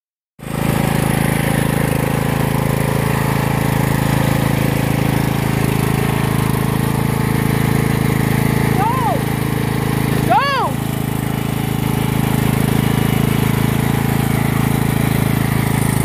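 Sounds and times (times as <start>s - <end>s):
motor humming: 0.5s - 16.0s.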